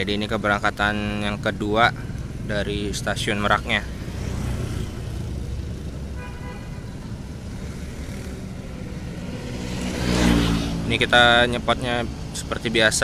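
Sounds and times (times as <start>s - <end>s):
road traffic rumble: 0.0s - 13.0s
vehicle engine: 0.0s - 13.0s.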